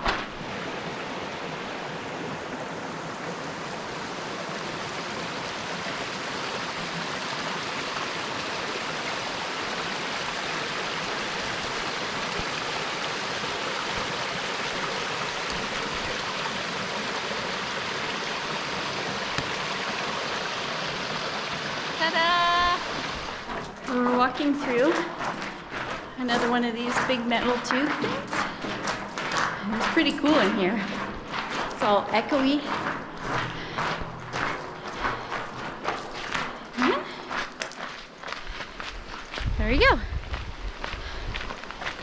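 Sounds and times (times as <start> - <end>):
creek water rushing: 0.0 - 39.2.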